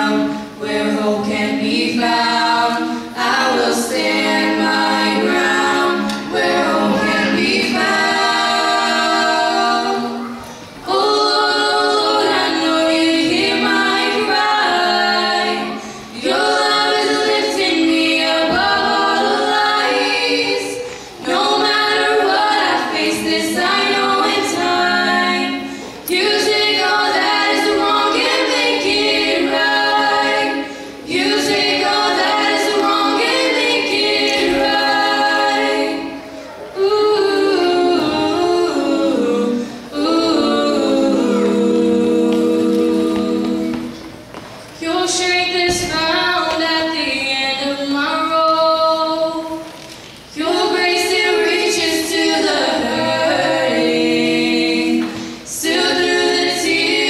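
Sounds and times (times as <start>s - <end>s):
women singing a cappella: 0.0s - 57.0s.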